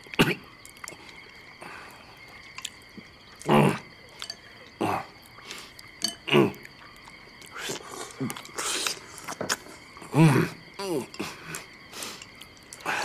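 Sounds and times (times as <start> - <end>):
mouth sounds of eating: 0.0 - 2.8, 3.4 - 13.0.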